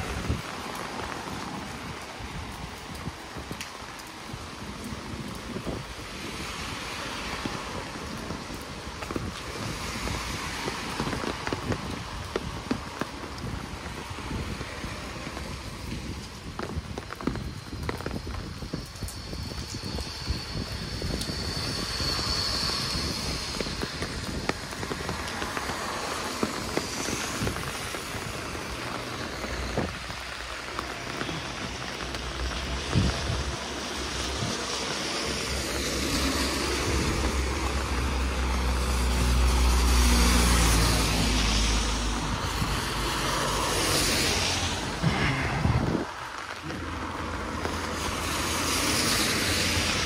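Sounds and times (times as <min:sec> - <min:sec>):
rain on cobbled street: 0:00.0 - 0:50.0
wind on microphone: 0:00.0 - 0:50.0.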